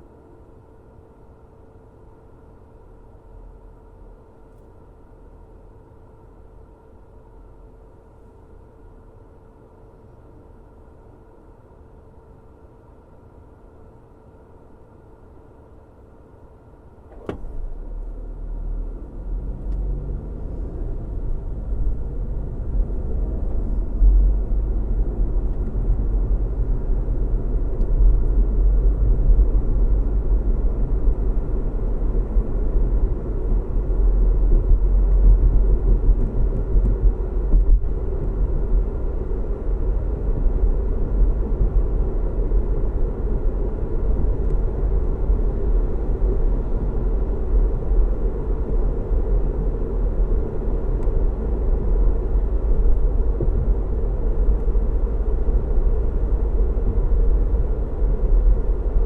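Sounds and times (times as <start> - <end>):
car engine hum and tyre rumble: 0.0 - 59.0.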